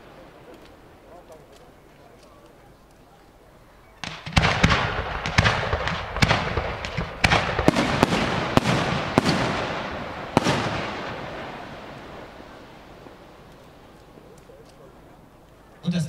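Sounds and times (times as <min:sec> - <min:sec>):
firework crackle: 0:00.0 - 0:03.1, 0:04.0 - 0:15.8.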